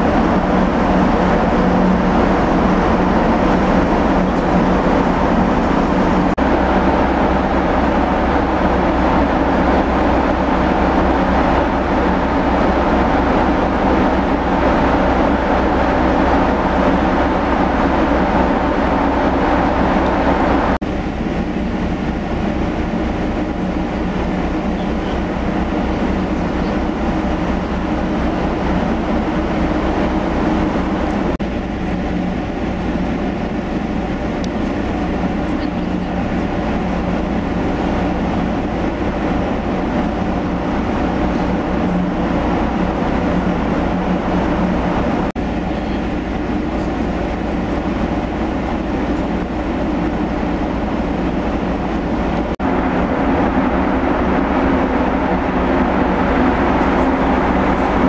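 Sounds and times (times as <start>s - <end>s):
ship engines droning: 0.0s - 58.0s.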